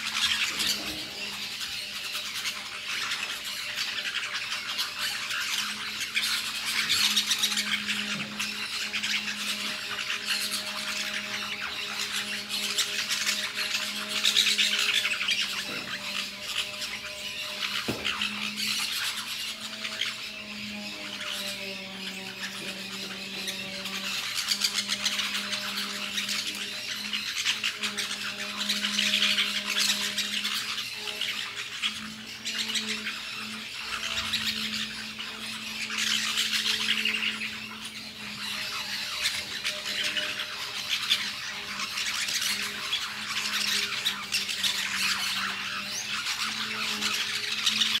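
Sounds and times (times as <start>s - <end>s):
parakeets squawking: 0.0s - 48.0s.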